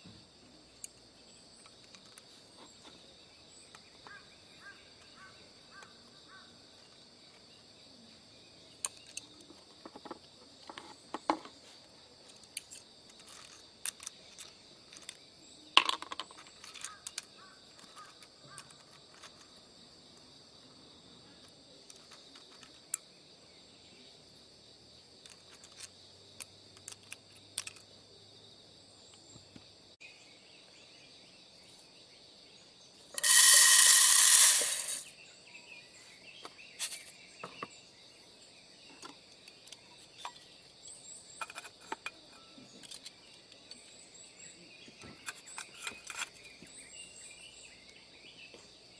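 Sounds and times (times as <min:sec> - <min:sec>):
crickets and insects chirping: 0:00.0 - 0:48.9.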